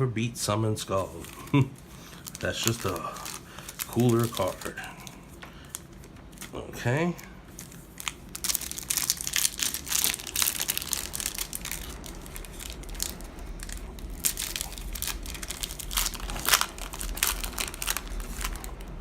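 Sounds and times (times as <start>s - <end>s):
foil wrapper crinkling and tearing: 1.0s - 6.6s, 7.5s - 19.0s.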